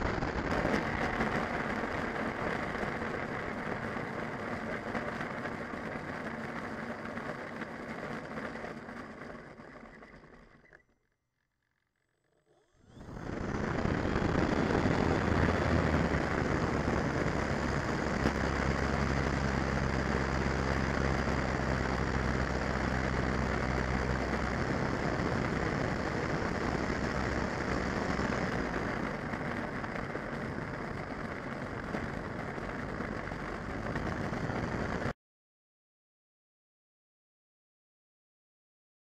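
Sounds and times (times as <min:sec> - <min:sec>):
model plane motor and propeller: 0:00.0 - 0:35.1.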